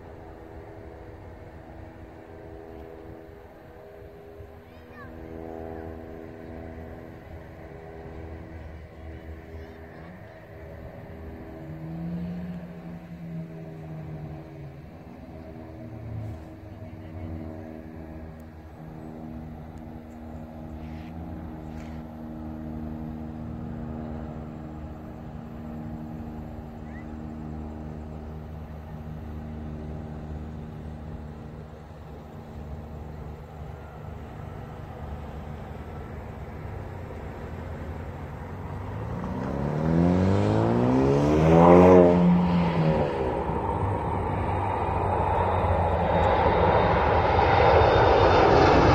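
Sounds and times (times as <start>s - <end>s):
engine hum: 0.0s - 48.9s.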